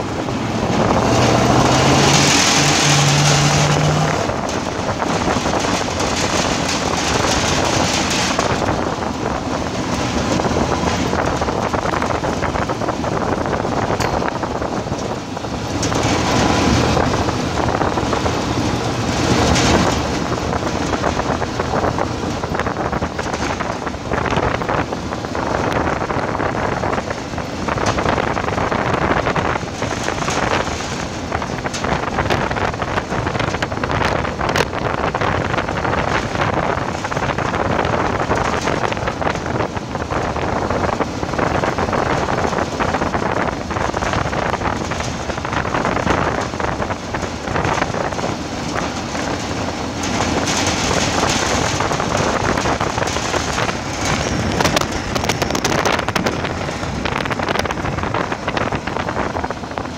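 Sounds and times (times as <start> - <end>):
vehicle running noise: 0.0 - 59.9
wind buffeting microphone: 0.0 - 59.9
tyres crunching over gravel: 0.5 - 59.9.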